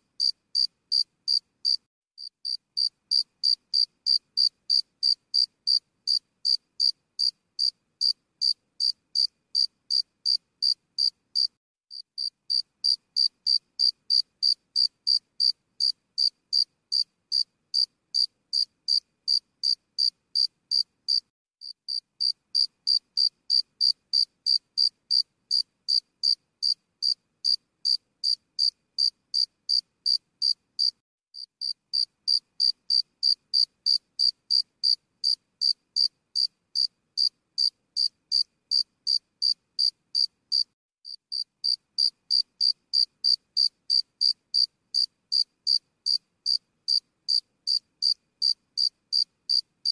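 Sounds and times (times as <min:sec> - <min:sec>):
cricket chirping: 0:00.2 - 0:01.8, 0:02.4 - 0:11.5, 0:12.2 - 0:21.2, 0:22.2 - 0:31.0, 0:31.6 - 0:40.7, 0:41.3 - 0:49.9.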